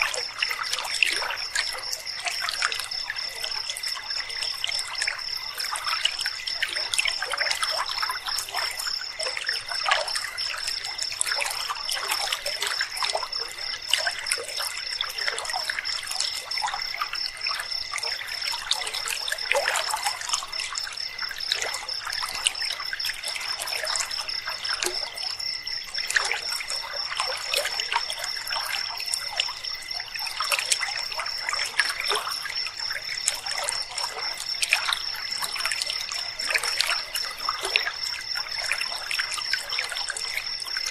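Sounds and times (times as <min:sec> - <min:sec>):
night insects trilling: 0:00.0 - 0:40.9
river water babbling: 0:00.0 - 0:40.9.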